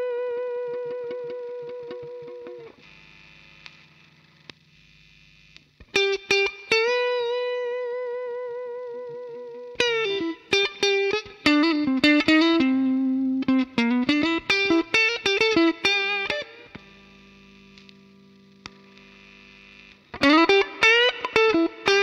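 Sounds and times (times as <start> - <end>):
electric guitar lead line: 0.0 - 4.4, 5.8 - 22.0
faint hum: 0.0 - 22.0.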